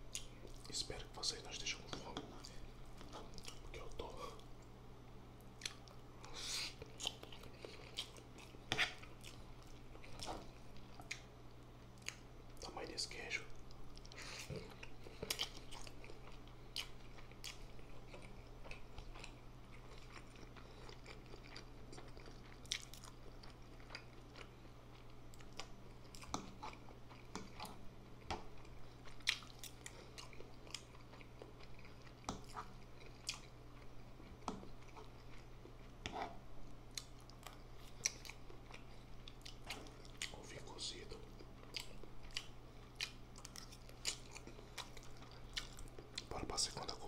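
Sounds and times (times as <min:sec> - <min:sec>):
low steady hum: 0:00.0 - 0:47.0
chewing noodles: 0:05.6 - 0:11.3, 0:13.9 - 0:47.0.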